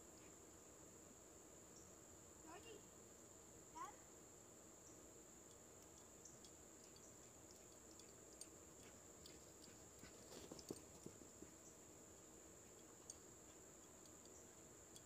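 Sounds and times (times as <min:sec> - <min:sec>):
high-pitched insect trill: 0:01.6 - 0:15.0.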